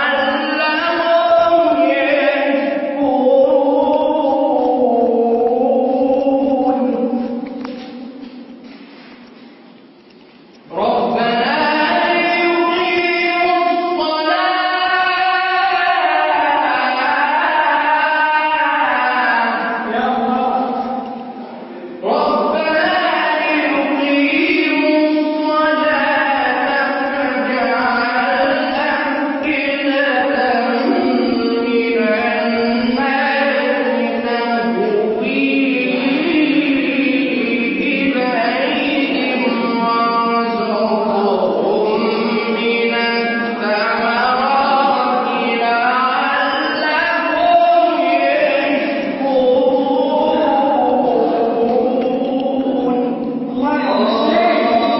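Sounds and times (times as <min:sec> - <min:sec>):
man chanting: 0:00.0 - 0:08.6, 0:10.7 - 0:54.9.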